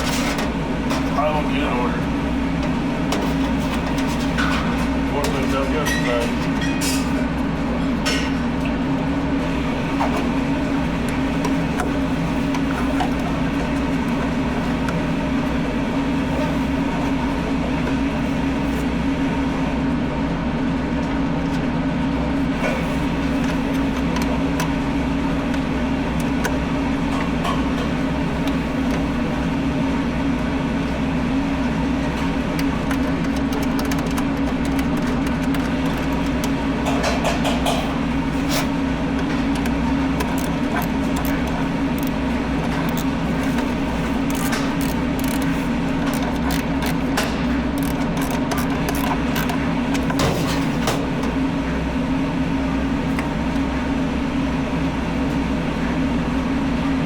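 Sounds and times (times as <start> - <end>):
machine drone with low hum: 0.0 - 57.0.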